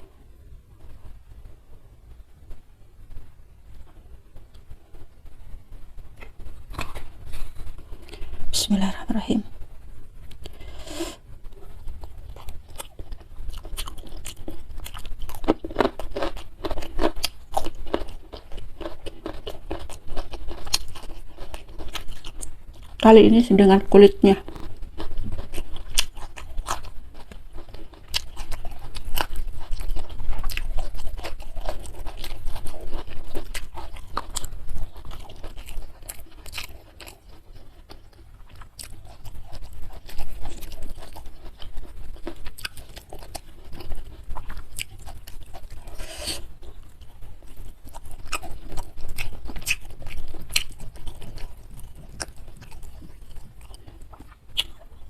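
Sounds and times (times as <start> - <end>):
chewing crunchy food: 6.0 - 8.5, 10.2 - 55.0.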